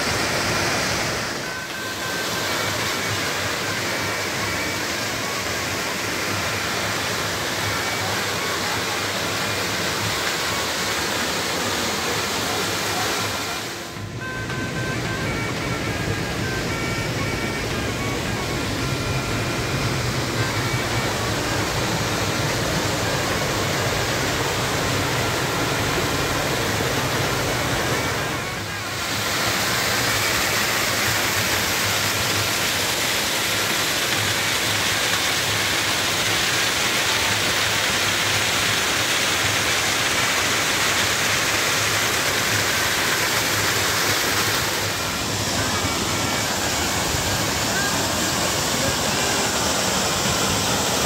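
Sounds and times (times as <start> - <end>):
waterfall splashing into pool: 0.0 - 13.9, 14.6 - 51.0.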